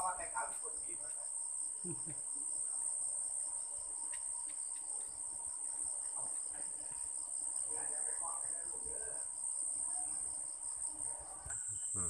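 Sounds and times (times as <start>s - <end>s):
insect high-pitched trill: 0.0s - 12.0s
insect pulsing chirp: 0.0s - 12.0s.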